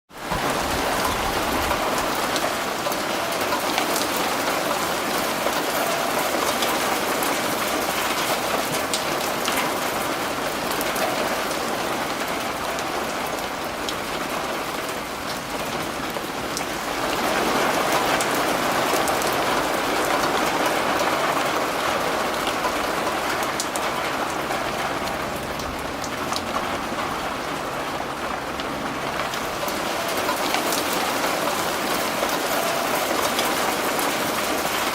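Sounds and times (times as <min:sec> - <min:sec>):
heavy rain: 0:00.1 - 0:34.9
hailstones ticking on hard surface: 0:00.2 - 0:34.9.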